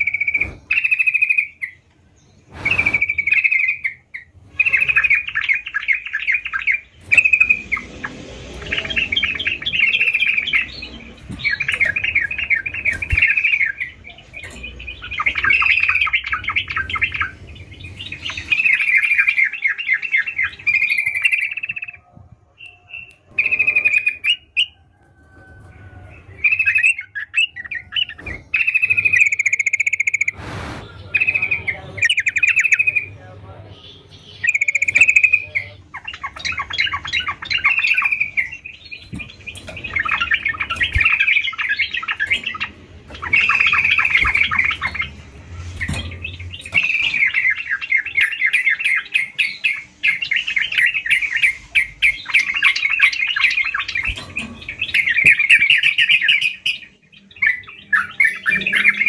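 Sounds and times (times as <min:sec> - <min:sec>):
bird singing rapid chirps: 0:00.0 - 0:24.8, 0:26.2 - 0:59.0.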